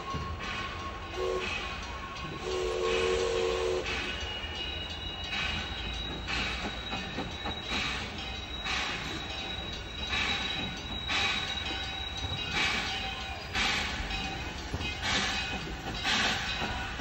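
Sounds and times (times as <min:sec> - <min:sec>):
steam locomotive chuffing: 0:00.0 - 0:17.0.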